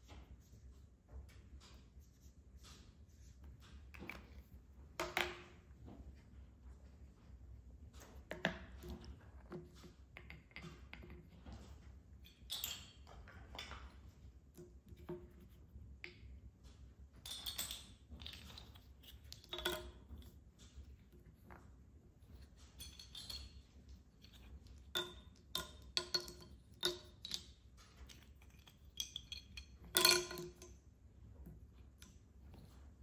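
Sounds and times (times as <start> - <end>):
wooden blocks set on table: 2.0 - 6.2, 8.2 - 11.4, 12.2 - 16.4, 17.2 - 33.0.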